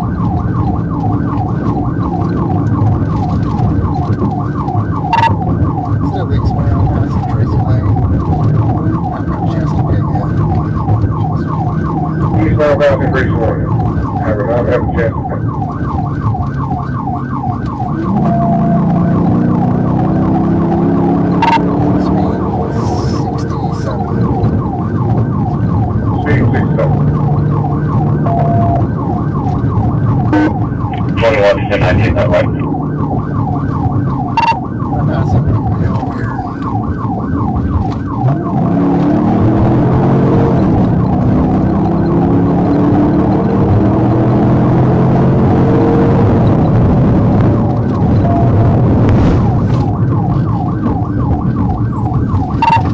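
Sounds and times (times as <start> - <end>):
car engine accelerating: 0.0 - 52.9
police siren yelping: 0.0 - 52.9.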